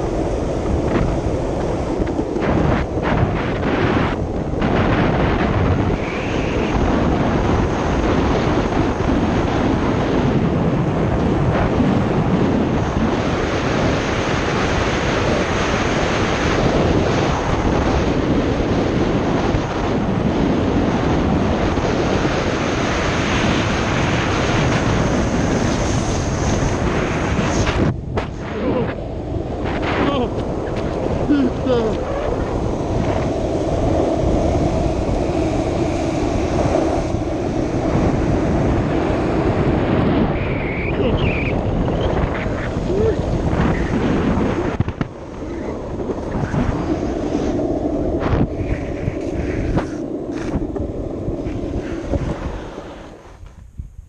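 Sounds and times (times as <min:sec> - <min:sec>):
longboard wheels rolling on asphalt: 0:00.0 - 0:54.0
wind rushing over microphone: 0:00.0 - 0:54.0.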